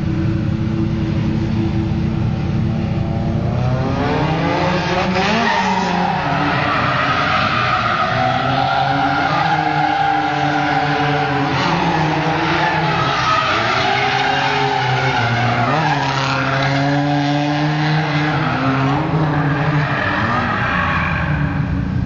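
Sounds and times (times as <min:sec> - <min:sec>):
car engine at high revs: 0:00.0 - 0:22.0.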